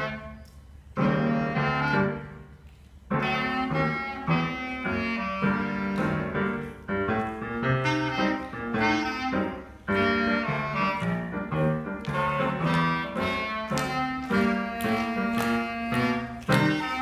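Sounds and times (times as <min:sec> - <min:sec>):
clarinet melody: 0:00.0 - 0:17.0
piano accompaniment: 0:00.0 - 0:17.0.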